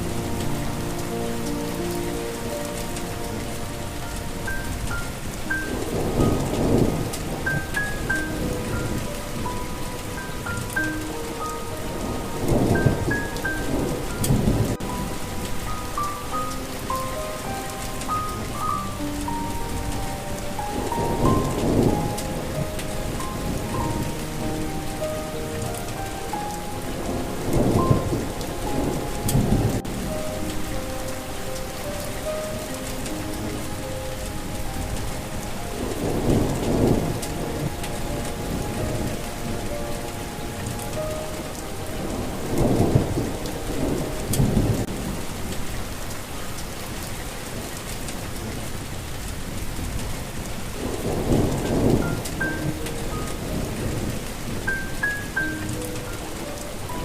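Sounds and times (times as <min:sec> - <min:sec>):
soft melody: 0:00.0 - 0:57.0
steady rain: 0:00.0 - 0:57.0
rolling thunder: 0:03.3 - 0:31.2, 0:31.8 - 0:46.4, 0:47.1 - 0:57.0.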